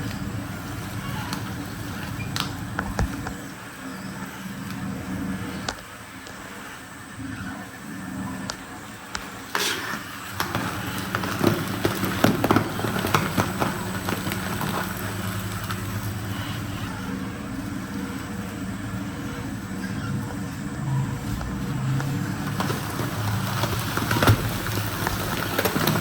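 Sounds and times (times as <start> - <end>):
shredder motor hum: 0.0 - 26.0.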